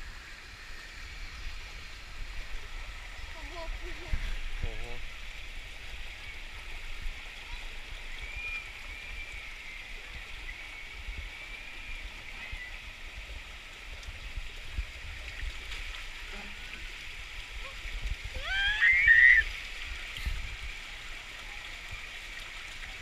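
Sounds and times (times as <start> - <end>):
water rushing down a waterslide: 0.0 - 23.0.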